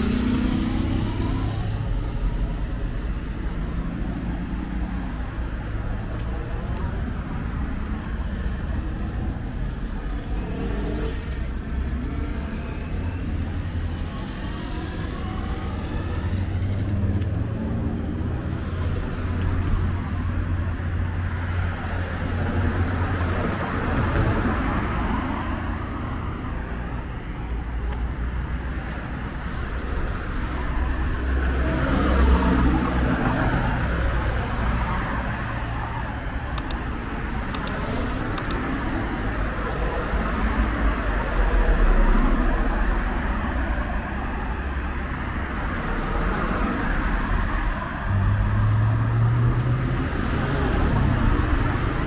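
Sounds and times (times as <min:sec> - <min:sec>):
cars passing: 0:00.0 - 0:52.0.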